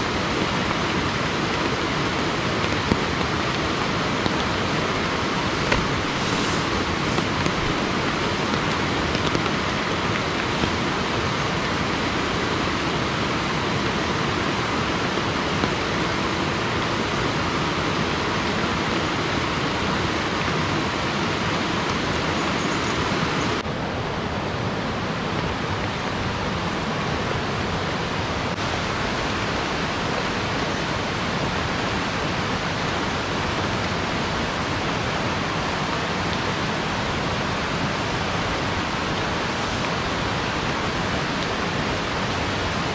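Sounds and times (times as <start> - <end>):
rushing water: 0.0 - 42.9.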